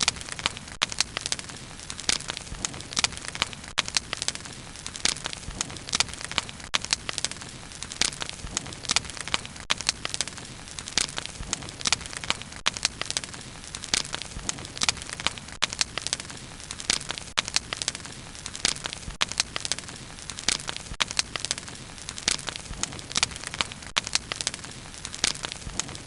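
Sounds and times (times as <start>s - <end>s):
bonfire crackling and popping: 0.0s - 26.0s
low fire hiss: 0.0s - 26.0s.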